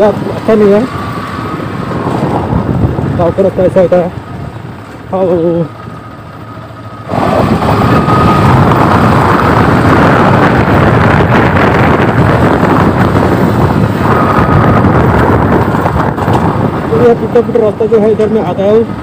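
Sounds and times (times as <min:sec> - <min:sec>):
motorcycle engine: 0:00.0 - 0:19.0
tyres rumbling on dirt track: 0:00.0 - 0:19.0
wind rush on microphone: 0:00.0 - 0:19.0.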